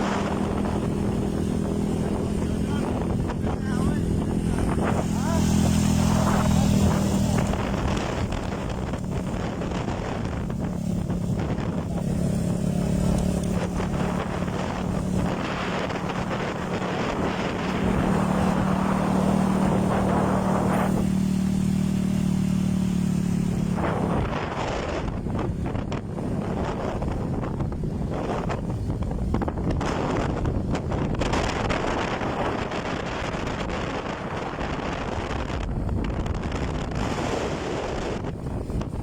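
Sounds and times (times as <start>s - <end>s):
boat motor running: 0.0s - 39.0s
wind buffeting microphone: 0.0s - 39.0s.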